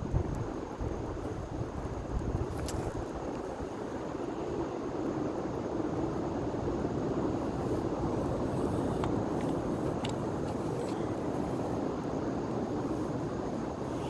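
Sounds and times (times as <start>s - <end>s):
faint fire crackles: 0.0s - 14.0s.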